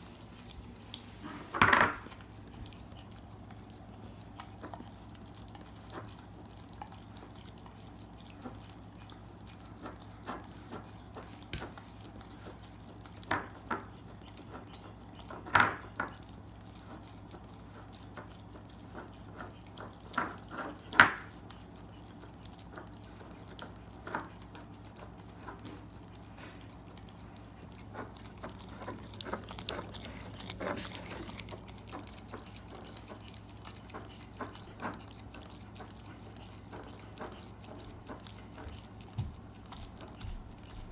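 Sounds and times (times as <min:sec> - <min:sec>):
dog licking and lip-smacking: 0:00.0 - 0:40.9.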